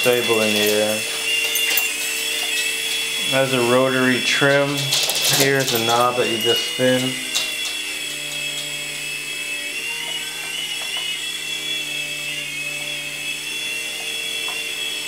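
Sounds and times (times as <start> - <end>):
spinning rotors humming: 0.0 - 15.0
toy helicopter motor whine: 0.0 - 15.0.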